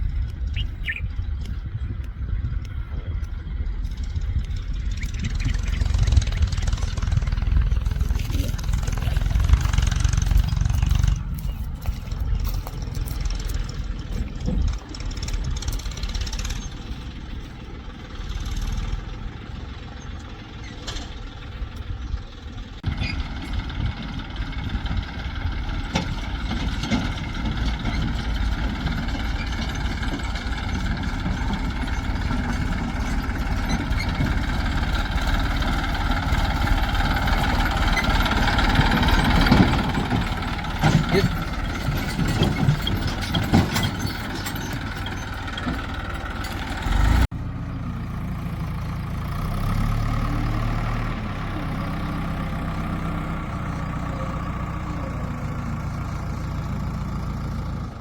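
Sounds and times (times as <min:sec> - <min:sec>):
diesel engines rumbling: 0:00.0 - 0:58.0
engine idling: 0:00.0 - 0:58.0.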